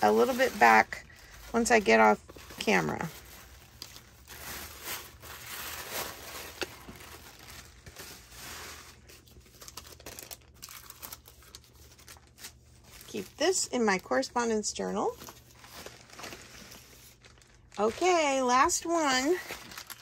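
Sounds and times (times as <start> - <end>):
paper rustling and crinkling: 0.0 - 14.2, 15.0 - 20.0.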